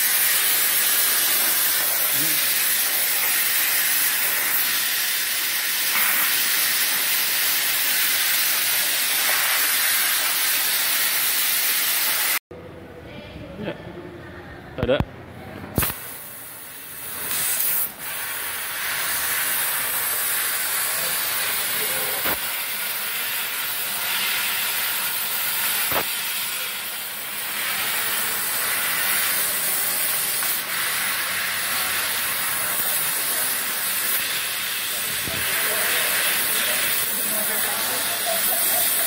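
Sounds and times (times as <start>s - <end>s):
laser cutter hissing: 0.0s - 12.4s, 15.8s - 39.0s.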